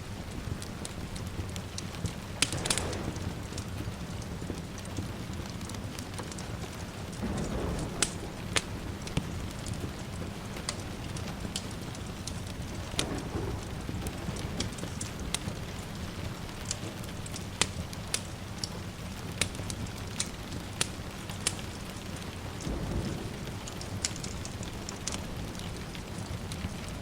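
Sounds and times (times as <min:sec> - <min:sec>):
steady rain: 0:00.0 - 0:27.0
wood fire crackling: 0:00.0 - 0:27.0
distant thunder rumble: 0:00.1 - 0:27.0.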